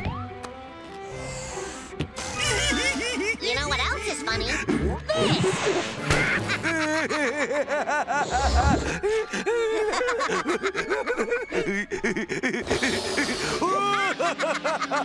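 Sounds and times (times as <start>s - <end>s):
cartoon voices laughing: 2.3s - 15.0s.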